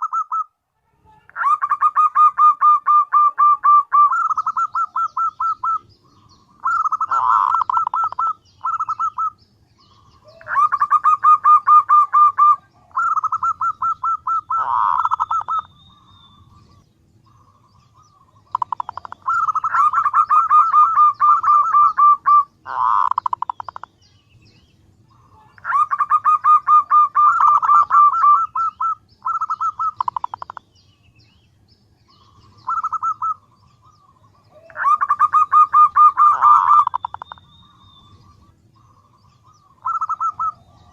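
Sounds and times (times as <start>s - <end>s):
dove cooing: 0.0s - 0.5s, 1.2s - 24.0s, 25.1s - 30.6s, 32.1s - 40.9s.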